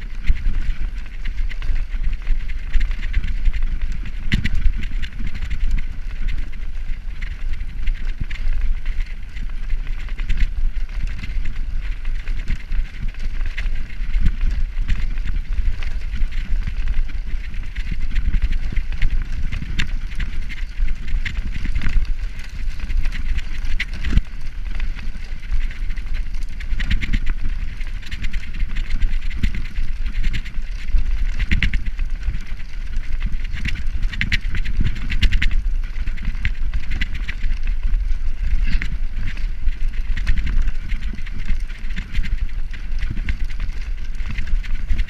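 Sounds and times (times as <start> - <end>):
bike rattling over cobblestones: 0.0 - 45.0.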